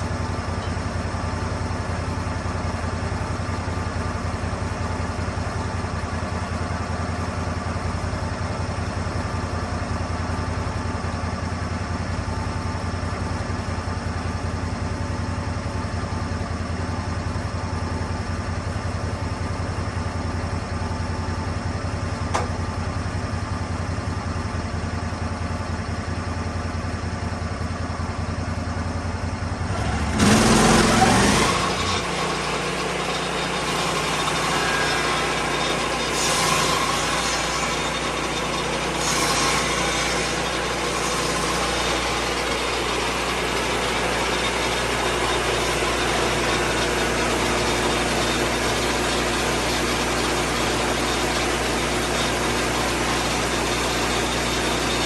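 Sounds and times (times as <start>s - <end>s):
sawmill engine idling: 0.0s - 55.0s.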